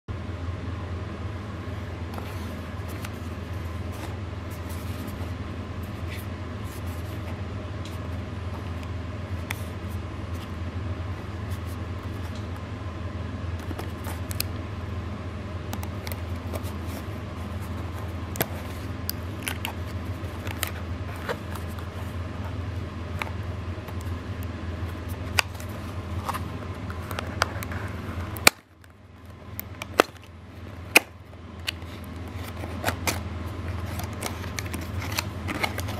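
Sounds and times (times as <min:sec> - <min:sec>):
steady low hum: 0:00.1 - 0:35.9.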